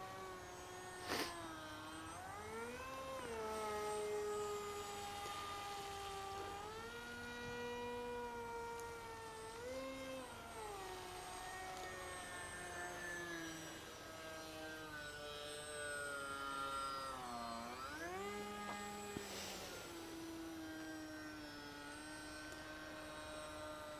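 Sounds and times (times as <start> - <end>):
model plane motor whining: 0.0 - 23.9.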